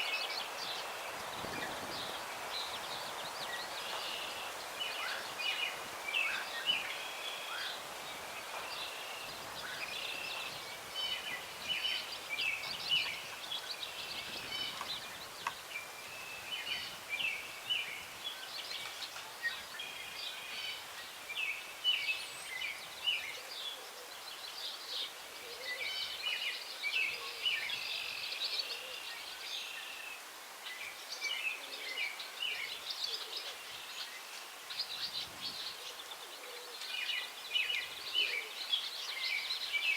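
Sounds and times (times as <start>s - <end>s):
breeze in branches: 0.0s - 39.9s
songbirds chirping and trilling: 0.0s - 39.9s.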